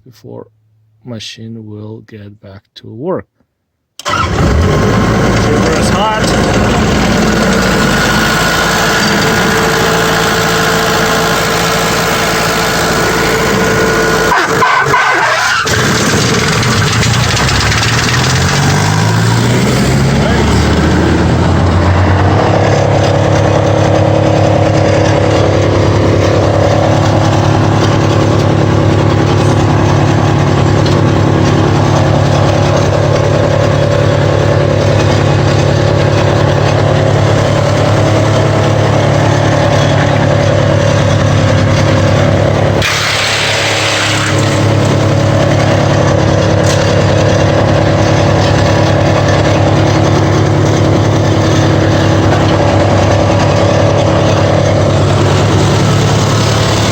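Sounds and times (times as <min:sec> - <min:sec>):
brush chipper running: 0:04.0 - 0:56.9.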